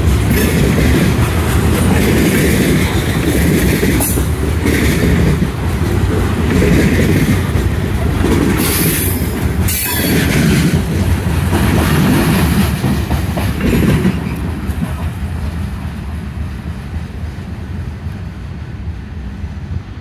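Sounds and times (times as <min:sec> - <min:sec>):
freight train cars rolling on rails: 0:00.0 - 0:20.0.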